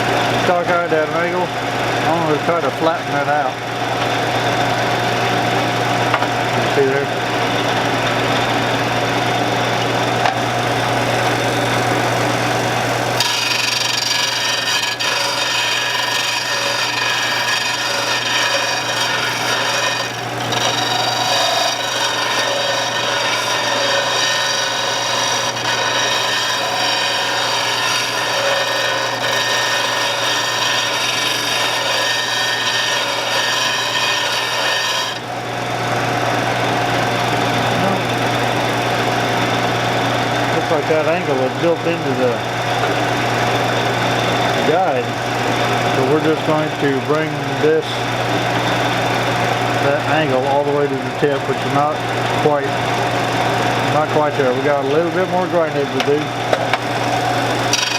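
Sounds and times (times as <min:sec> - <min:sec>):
machine motor running: 0:03.4 - 0:51.3.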